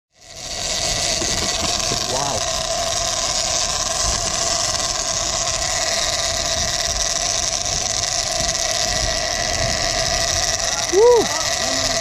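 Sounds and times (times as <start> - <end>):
boat engine droning: 0.1 - 12.0.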